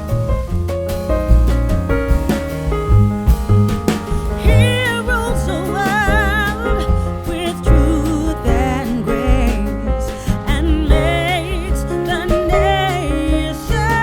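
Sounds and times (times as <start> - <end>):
bass and steady beat: 0.0 - 14.0.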